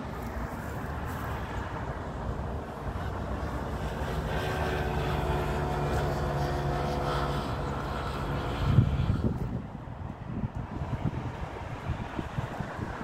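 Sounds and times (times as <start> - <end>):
distant engine hum: 0.0 - 13.0
wind buffeting microphone: 0.0 - 13.0.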